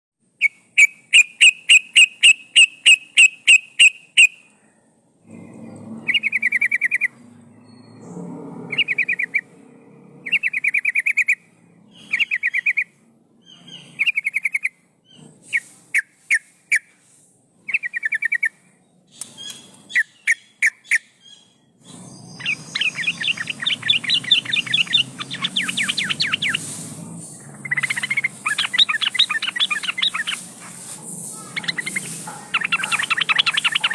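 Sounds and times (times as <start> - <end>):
bird calling: 0.4 - 4.5, 5.2 - 9.6, 10.2 - 16.9, 17.7 - 33.9.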